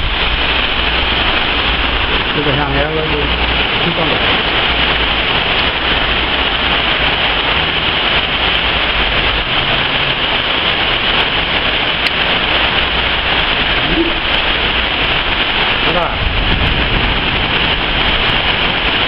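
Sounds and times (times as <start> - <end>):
heavy rain pouring: 0.0 - 19.0
low rumble: 0.0 - 19.0.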